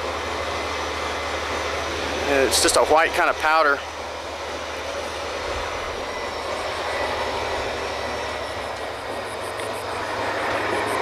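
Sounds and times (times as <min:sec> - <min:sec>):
broad rushing noise: 0:00.0 - 0:11.0
drilling rig machinery humming: 0:00.0 - 0:11.0
faint high whine: 0:00.0 - 0:11.0.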